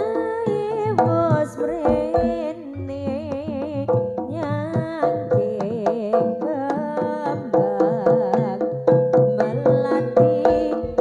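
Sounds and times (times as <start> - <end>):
drum strokes: 0.0 - 11.0
wavering melody with vibrato: 0.0 - 11.0.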